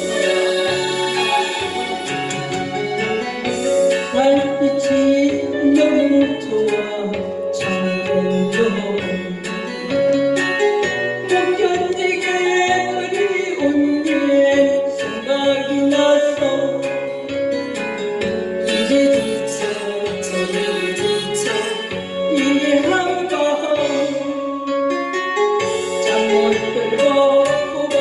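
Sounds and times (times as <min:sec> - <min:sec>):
person singing: 0:00.0 - 0:28.0
pop backing track: 0:00.0 - 0:28.0.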